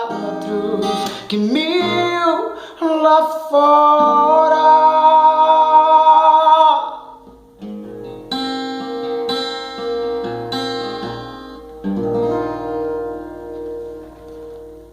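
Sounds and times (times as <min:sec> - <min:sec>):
acoustic guitar strummed chords: 0:00.0 - 0:14.9.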